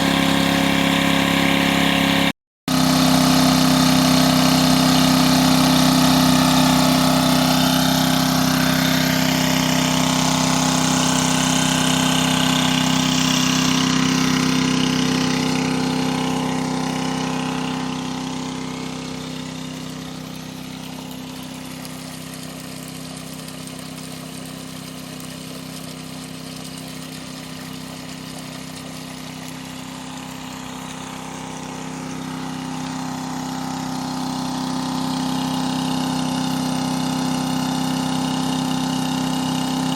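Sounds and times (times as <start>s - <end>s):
pump engine hum: 0.0s - 39.9s
rushing pumped water: 0.0s - 39.9s.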